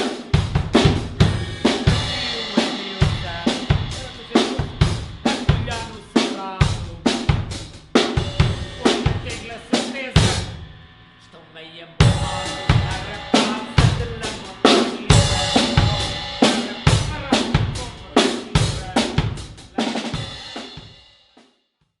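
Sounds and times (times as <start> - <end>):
rock drum kit played hard: 0.0 - 10.8, 12.0 - 21.4
cymbal crashes ringing: 0.0 - 11.4, 12.0 - 21.2.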